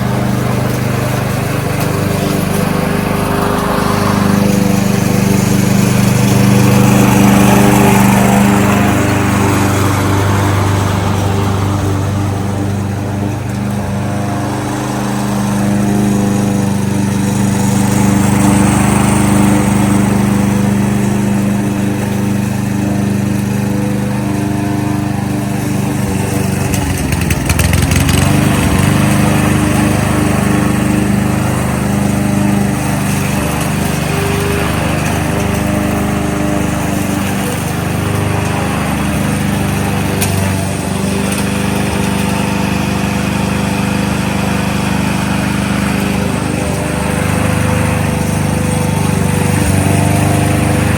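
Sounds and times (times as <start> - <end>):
lawnmower engine running: 0.0 - 50.9.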